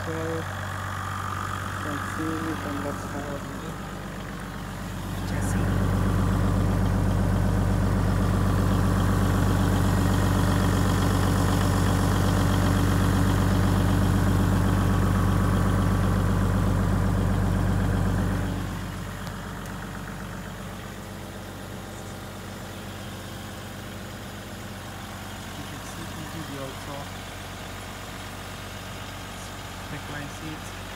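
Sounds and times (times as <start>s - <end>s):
diesel bus engine idling: 0.0s - 30.9s.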